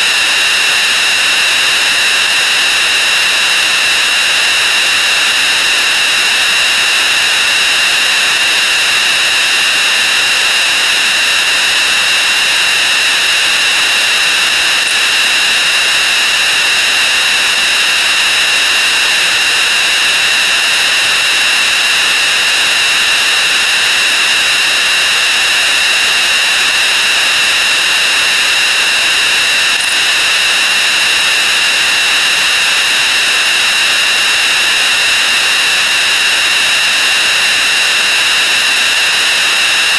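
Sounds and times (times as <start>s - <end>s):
constant high whine: 0.0s - 39.9s.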